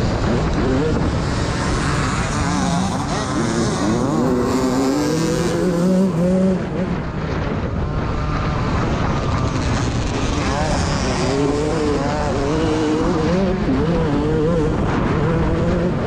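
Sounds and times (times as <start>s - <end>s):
motocross engines revving: 0.0s - 16.0s.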